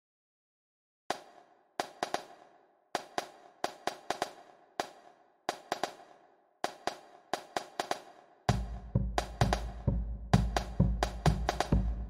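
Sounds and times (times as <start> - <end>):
snare drum hits: 1.1 - 9.8, 10.4 - 11.9.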